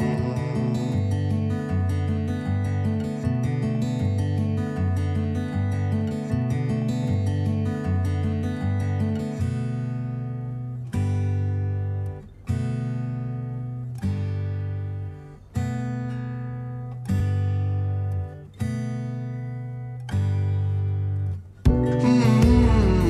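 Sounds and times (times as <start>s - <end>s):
acoustic guitar chords ringing: 0.0s - 23.0s.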